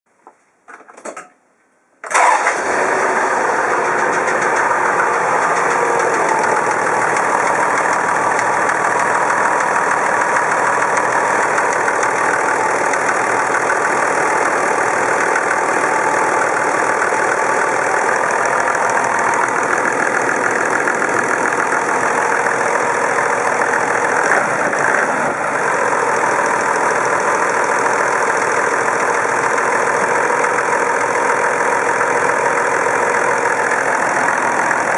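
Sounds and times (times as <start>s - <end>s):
diesel engine starting and idling: 2.0s - 34.9s
irregular engine rattle: 2.1s - 34.9s.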